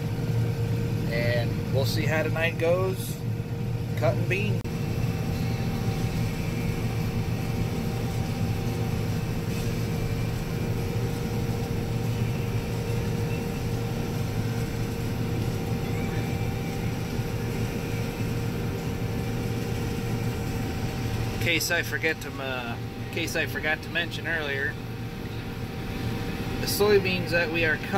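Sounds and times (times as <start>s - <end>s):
combine harvester engine drone: 0.0s - 27.9s
faint steady whine: 0.0s - 27.9s.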